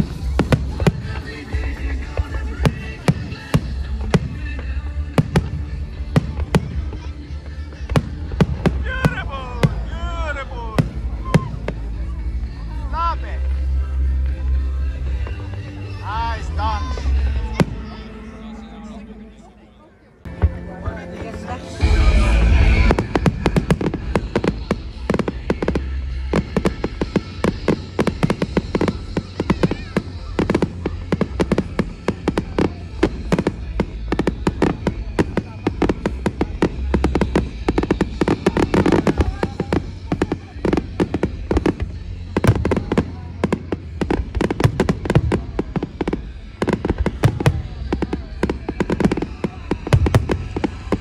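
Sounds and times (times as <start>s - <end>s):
fireworks bangs: 0.0s - 12.3s, 20.3s - 51.0s.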